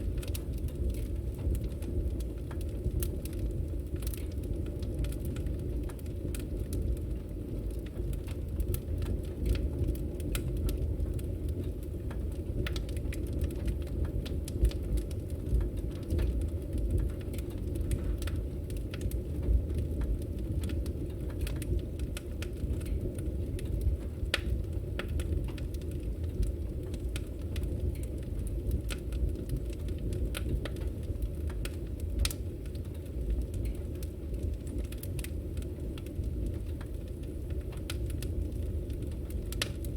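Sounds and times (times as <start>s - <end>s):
burning wood crackling: 0.0s - 39.9s
flames rumbling: 0.0s - 39.9s.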